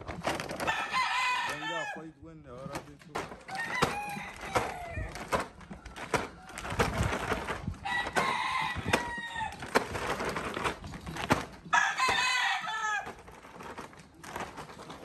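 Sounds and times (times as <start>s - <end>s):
roosters crowing: 0.0s - 2.2s, 3.1s - 15.0s.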